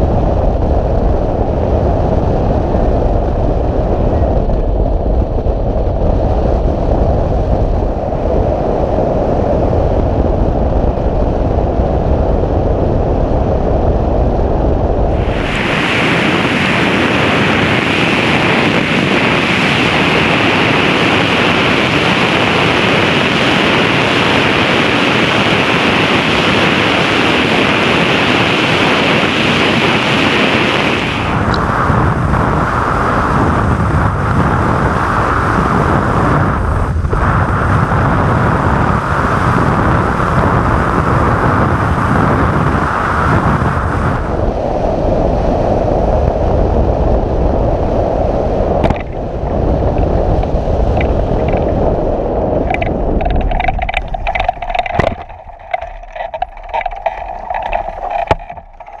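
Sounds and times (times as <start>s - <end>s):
wind buffeting and crackles: 0.0s - 59.0s
wind rushing over microphone: 0.0s - 59.0s.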